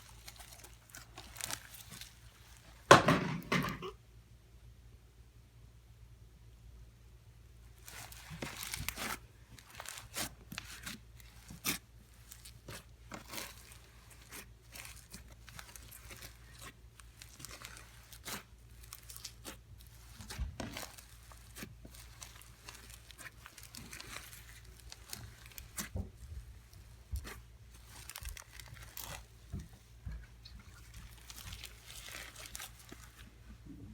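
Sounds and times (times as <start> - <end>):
slime squished by hand: 0.0 - 3.0, 7.8 - 33.7.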